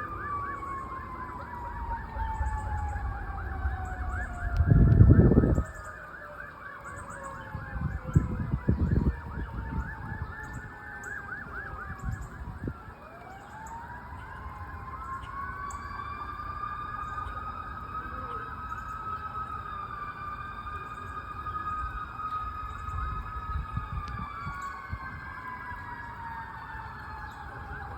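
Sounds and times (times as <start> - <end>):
fire engine sirens: 0.0 - 27.9.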